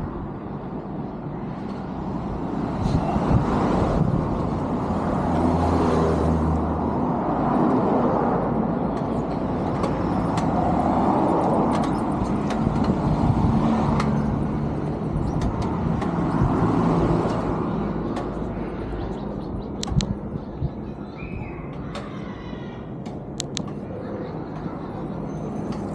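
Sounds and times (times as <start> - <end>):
road traffic rumbling: 0.0 - 25.9.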